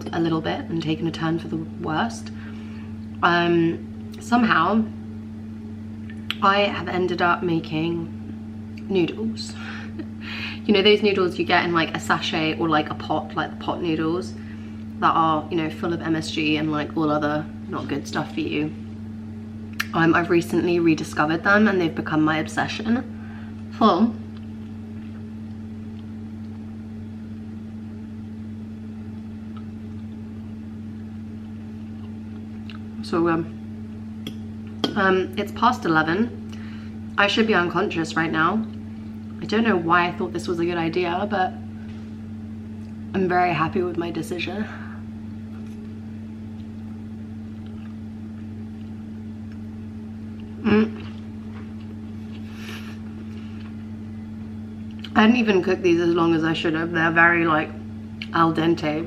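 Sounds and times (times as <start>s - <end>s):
appliance electrical hum: 0.0s - 59.0s.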